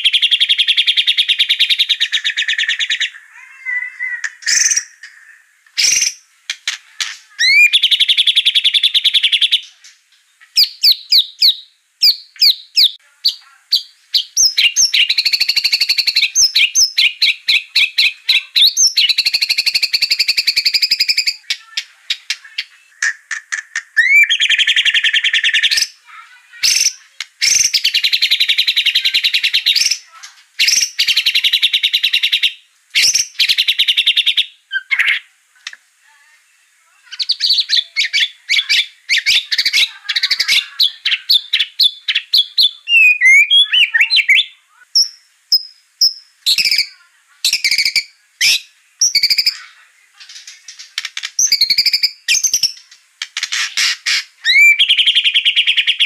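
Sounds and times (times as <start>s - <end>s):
songbird singing trills and whistles: 0.0s - 6.2s, 7.1s - 26.0s, 26.6s - 35.3s, 36.6s - 49.7s, 51.0s - 52.9s, 53.5s - 56.0s.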